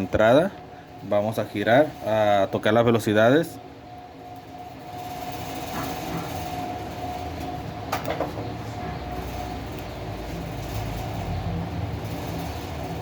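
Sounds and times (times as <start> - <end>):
fan motor spinning with whine: 0.0 - 13.0.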